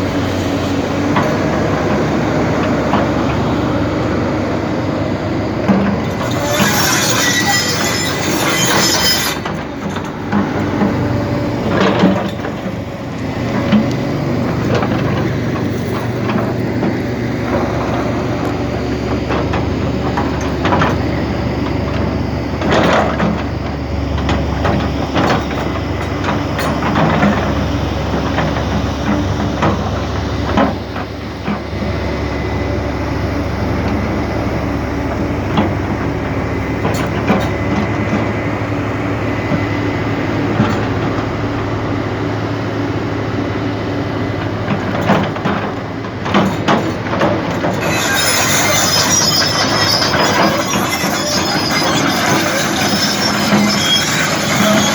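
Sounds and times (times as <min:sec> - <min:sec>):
excavator diesel engine droning: 0:00.0 - 0:54.9.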